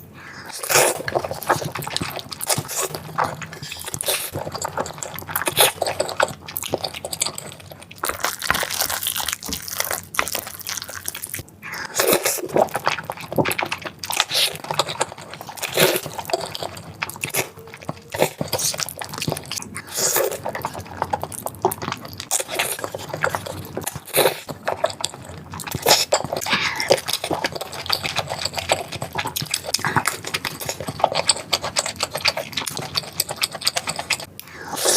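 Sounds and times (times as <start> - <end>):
chewing and biting: 0.2 - 34.9.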